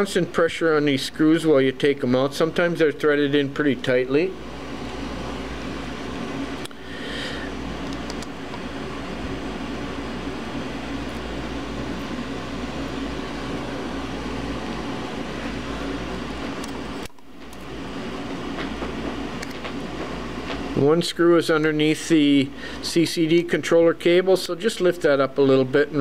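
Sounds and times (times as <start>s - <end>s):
fan-like room hum: 0.0s - 26.0s.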